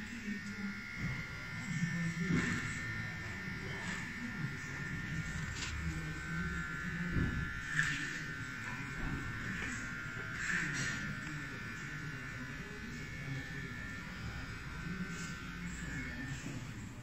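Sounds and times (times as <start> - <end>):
electric beard trimmer buzzing: 0.0 - 17.0.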